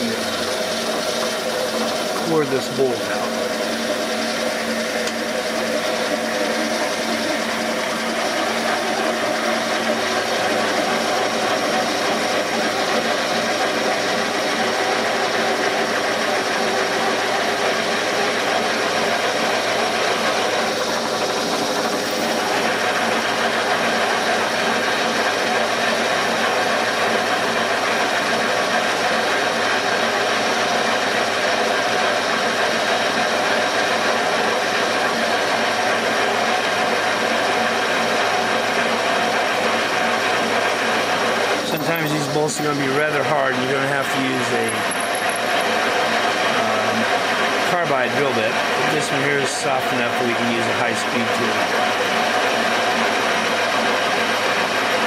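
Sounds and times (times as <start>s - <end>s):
drill boring into metal: 0.0s - 55.0s.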